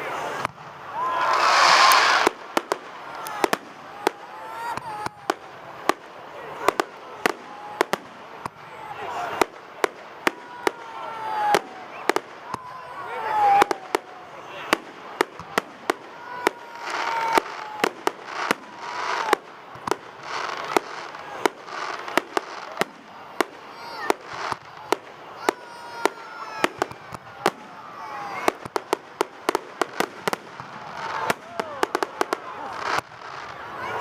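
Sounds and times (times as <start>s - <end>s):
fireworks bangs: 0.0s - 34.0s
fireworks hissing: 0.0s - 34.0s.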